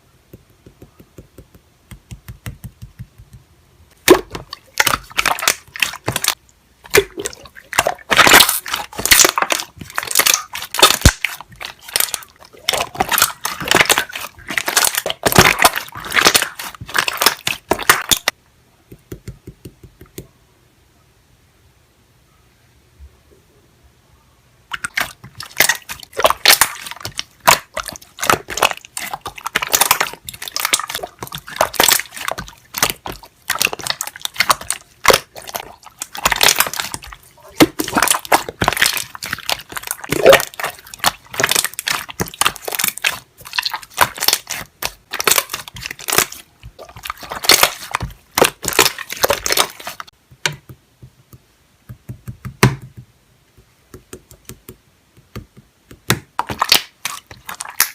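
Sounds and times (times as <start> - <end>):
slime squelching and popping: 0.4 - 18.4, 24.7 - 50.8, 53.9 - 57.9.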